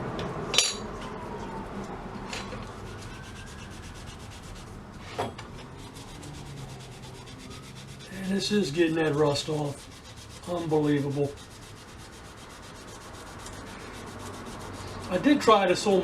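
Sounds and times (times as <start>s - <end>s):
scrubbing metal plate: 2.9s - 16.0s.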